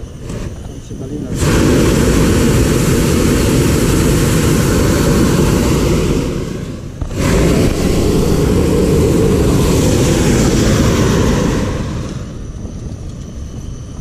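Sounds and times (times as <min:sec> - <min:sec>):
propane burner roaring: 0:00.0 - 0:14.0.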